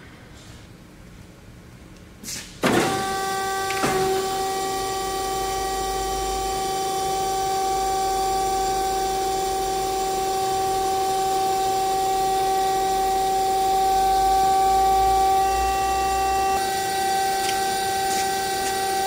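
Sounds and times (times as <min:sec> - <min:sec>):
band saw whining: 0:02.7 - 0:19.0.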